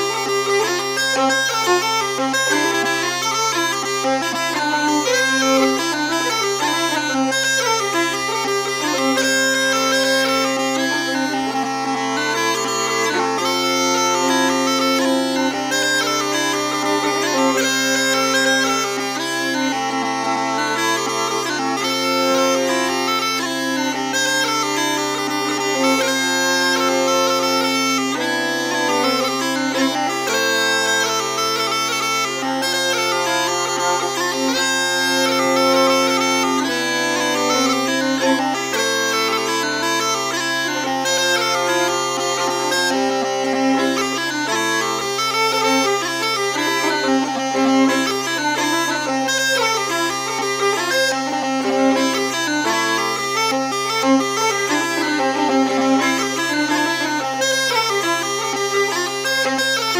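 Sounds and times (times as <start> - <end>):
fiddle playing: 0.0 - 59.9
smallpipes playing with drone: 0.0 - 59.9.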